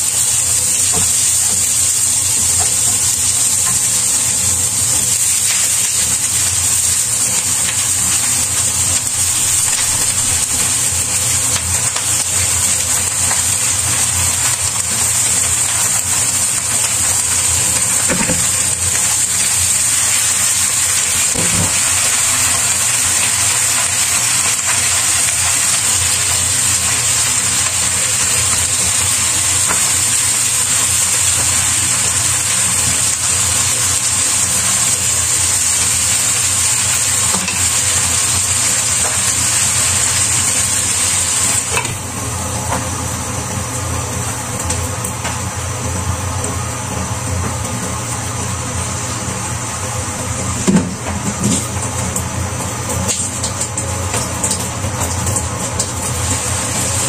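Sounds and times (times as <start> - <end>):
cabbage sizzling in a frying pan: 0.0 - 57.0.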